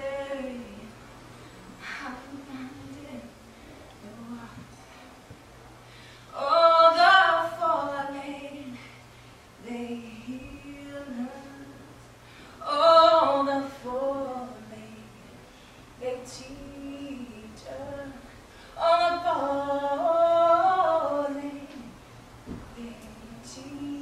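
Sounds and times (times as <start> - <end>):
woman singing unaccompanied: 0.0 - 1.0, 1.8 - 5.0, 6.3 - 9.0, 9.6 - 12.0, 12.6 - 15.4, 16.0 - 22.0, 22.7 - 24.0.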